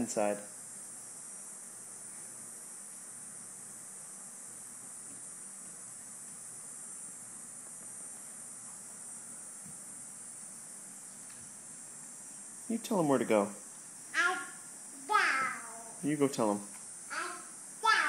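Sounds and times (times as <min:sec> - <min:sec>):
faint room tone hiss: 0:00.0 - 0:18.0.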